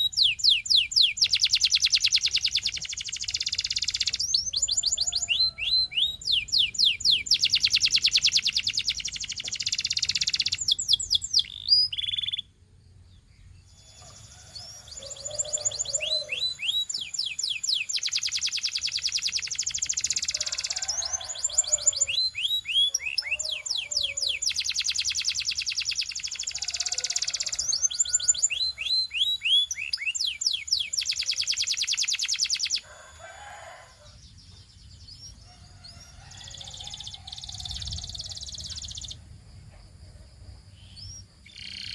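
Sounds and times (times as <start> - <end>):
canary singing: 0.0 - 12.5, 13.6 - 34.2, 35.0 - 39.2, 40.8 - 41.9.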